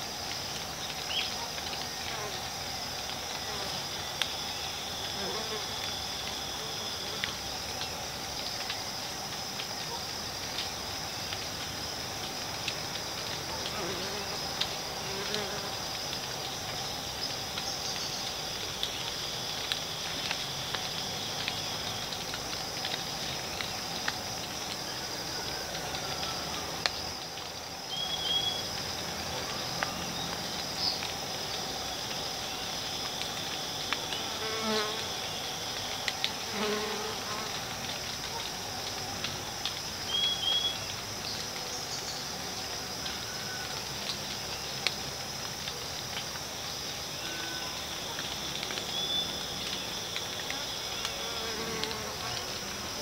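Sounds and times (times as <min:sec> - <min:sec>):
high-pitched insect chorus: 0:00.0 - 0:53.0
insect chirps and ticks: 0:00.0 - 0:53.0.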